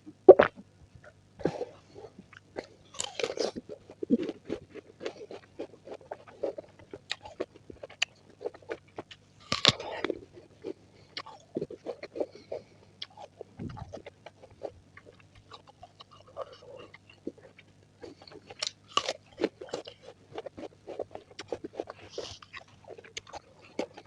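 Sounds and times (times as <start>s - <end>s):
chewing and crunching fruit: 0.4s - 24.0s.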